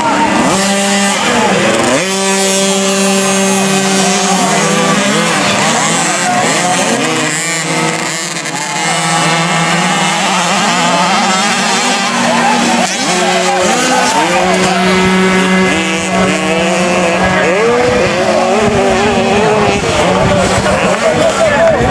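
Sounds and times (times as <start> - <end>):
motocross bikes revving: 0.0 - 21.9.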